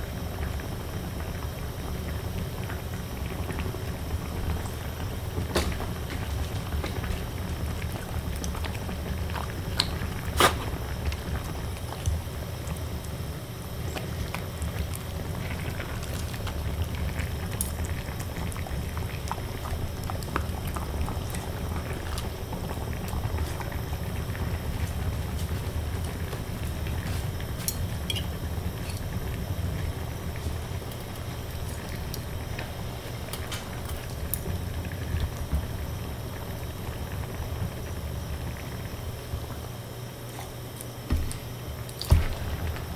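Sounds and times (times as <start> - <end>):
pan simmering with low bubbling: 0.0 - 42.9.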